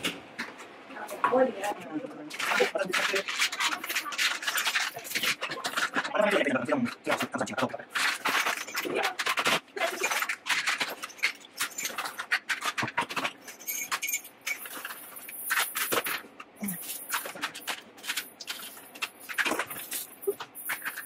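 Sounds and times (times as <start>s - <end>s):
plastic toys clattering in racks: 2.2s - 21.0s.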